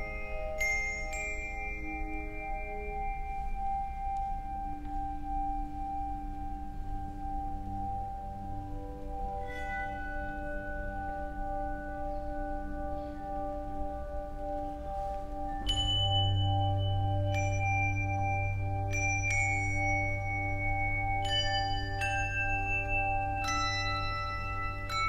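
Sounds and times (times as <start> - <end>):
handbells ringing: 0.0 - 25.0.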